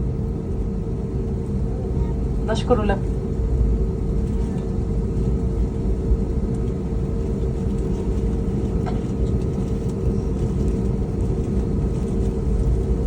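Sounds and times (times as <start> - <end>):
airplane cabin rumble and hum: 0.0 - 13.0.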